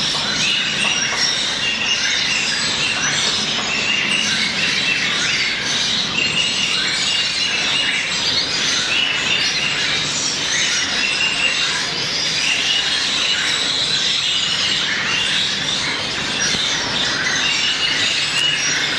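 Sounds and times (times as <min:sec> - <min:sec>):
finches chirping: 0:00.0 - 0:18.9.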